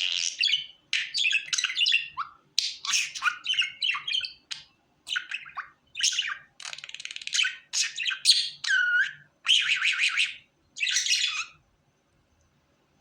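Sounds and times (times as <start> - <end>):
budgerigar chattering and warbling: 0.0 - 11.6.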